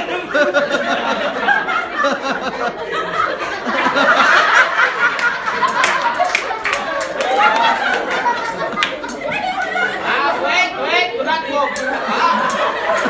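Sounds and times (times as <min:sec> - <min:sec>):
crowd chattering and laughing: 0:00.0 - 0:13.0.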